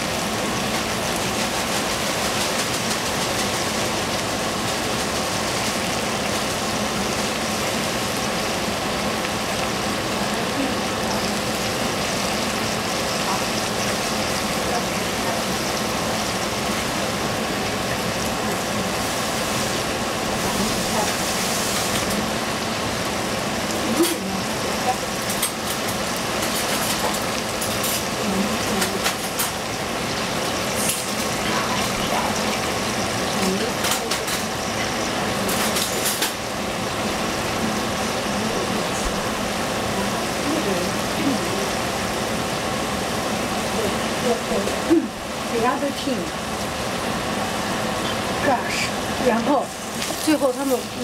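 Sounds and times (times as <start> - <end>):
food sizzling in a pan: 0.0 - 51.0
small pops of frying: 0.0 - 51.0.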